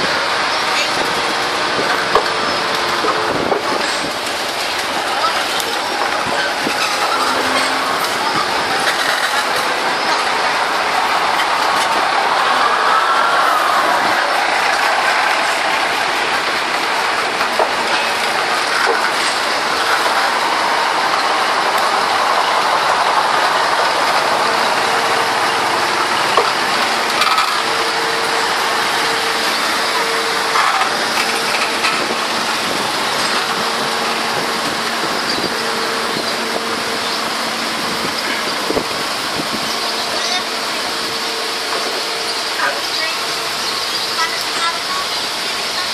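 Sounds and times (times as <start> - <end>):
railcar rolling past: 0.0 - 45.9.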